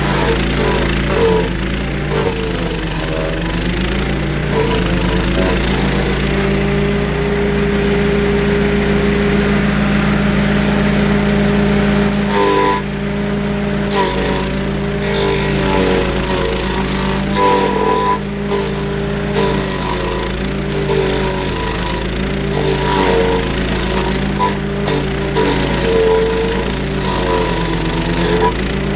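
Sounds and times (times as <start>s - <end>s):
rough grinding hiss: 0.0s - 8.8s, 12.0s - 28.9s
stump grinder engine: 0.0s - 28.9s.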